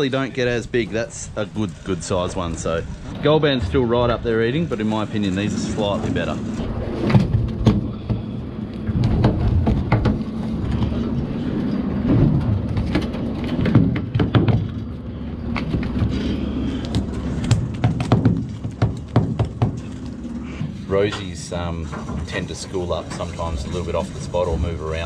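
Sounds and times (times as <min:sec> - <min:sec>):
boat machinery hum: 0:00.0 - 0:25.0.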